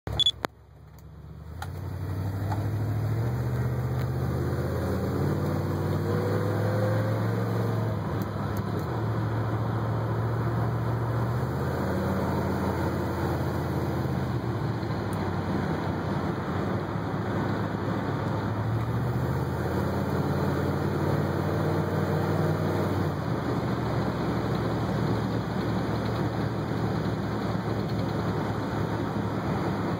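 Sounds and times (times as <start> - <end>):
car engine from inside cabin: 0.1 - 29.9.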